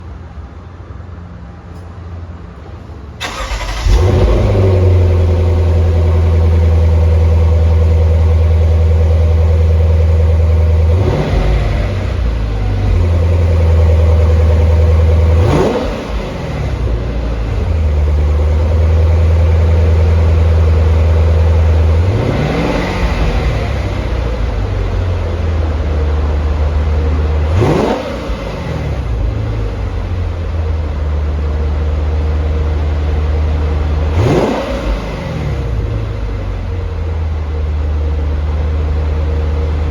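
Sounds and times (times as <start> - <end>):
car engine starting and idling: 0.0 - 39.9
car engine revving: 2.8 - 39.9.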